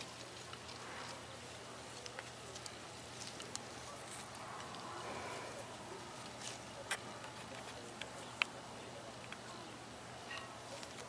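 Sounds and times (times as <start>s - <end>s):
dry leaves and twigs crackling: 0.0s - 11.0s.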